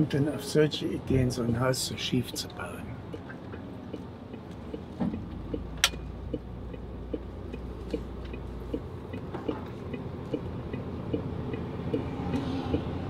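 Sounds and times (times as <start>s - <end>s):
truck engine drone: 0.0s - 13.0s
turn signal ticking: 0.0s - 13.0s.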